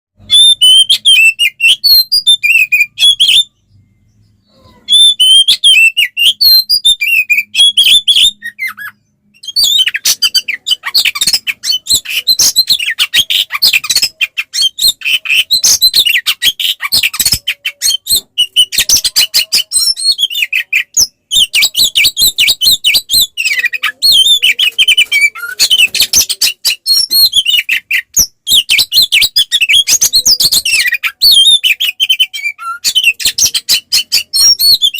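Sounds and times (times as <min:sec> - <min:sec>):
magpie-robin singing chattering phrases: 0:04.8 - 0:34.9.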